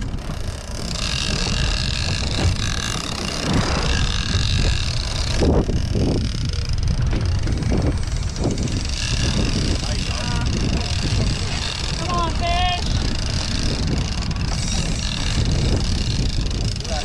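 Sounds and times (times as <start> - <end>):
boat engine running: 0.0 - 17.0
water splashing along hull: 0.0 - 17.0
wind buffeting microphone: 0.0 - 17.0.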